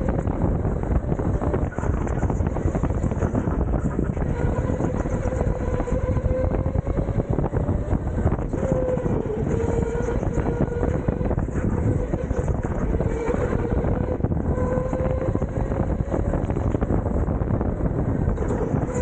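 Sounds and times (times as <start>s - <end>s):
go-kart motor whine: 0.0s - 19.0s
wind buffeting microphone: 0.0s - 19.0s.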